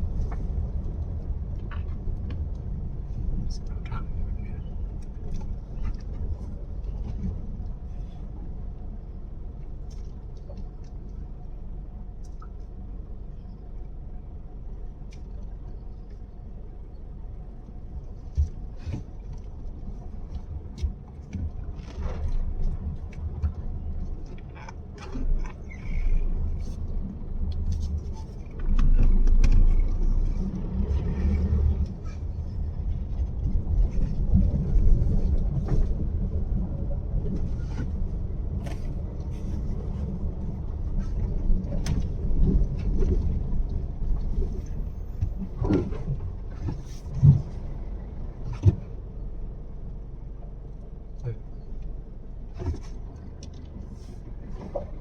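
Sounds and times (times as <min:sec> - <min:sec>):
vehicle rumbling on bumpy track: 0:00.0 - 0:55.0.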